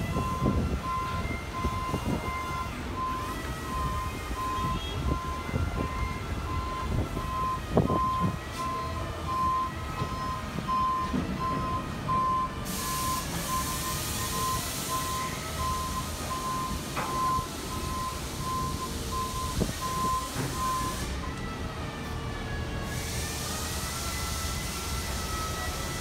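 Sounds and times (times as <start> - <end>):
reversing alarm beeping: 0.0 - 26.0.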